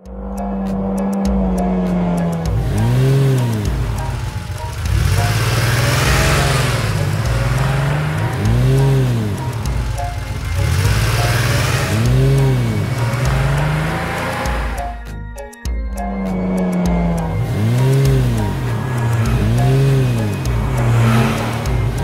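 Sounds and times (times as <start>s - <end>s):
background music: 0.0s - 22.0s
cartoon engine revving: 0.8s - 15.0s, 16.2s - 22.0s.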